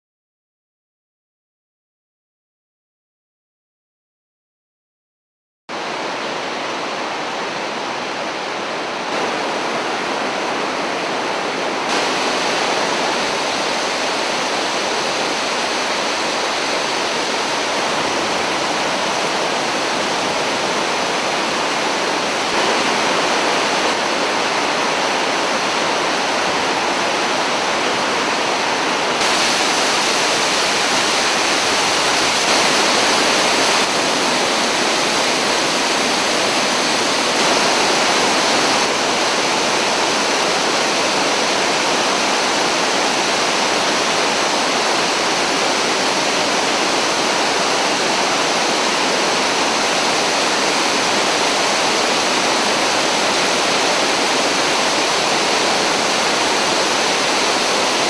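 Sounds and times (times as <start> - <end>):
waterfall rushing: 5.7 - 58.0.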